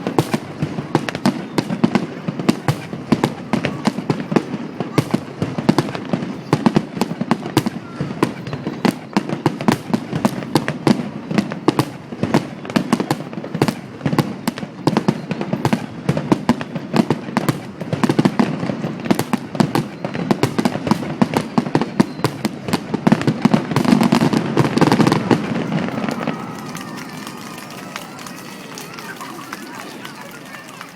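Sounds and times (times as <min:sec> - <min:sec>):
fireworks crackling and banging: 0:00.0 - 0:30.9.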